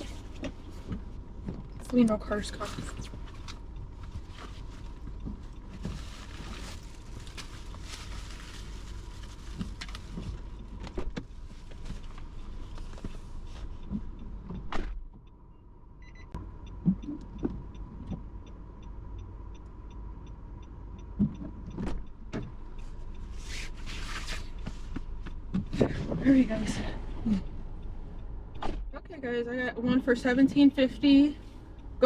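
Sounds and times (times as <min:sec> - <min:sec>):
car cabin rumble: 0:00.0 - 0:32.0
turn signal ticking: 0:00.0 - 0:32.0.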